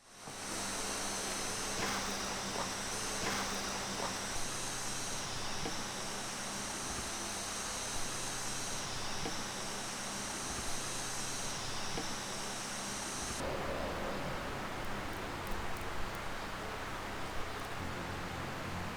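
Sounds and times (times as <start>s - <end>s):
outdoor background noise: 0.0s - 18.9s.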